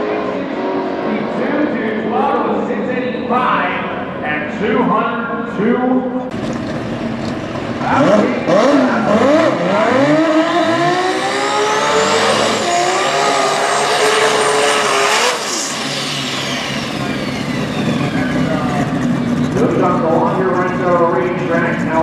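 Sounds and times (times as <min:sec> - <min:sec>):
drag car engine revving: 0:00.0 - 0:04.7, 0:06.3 - 0:22.0.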